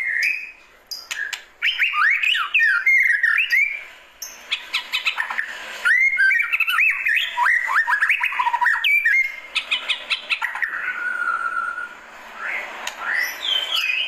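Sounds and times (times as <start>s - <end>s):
bird whistling song: 0.0s - 14.0s.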